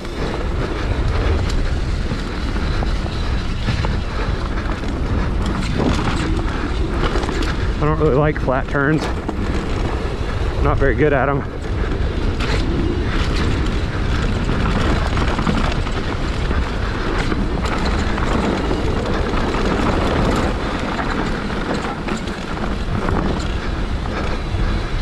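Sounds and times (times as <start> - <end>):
bike chain and frame rattling: 0.0 - 25.0
bike tyre rumble on gravel: 0.0 - 25.0
wind rumble on microphone: 0.0 - 25.0.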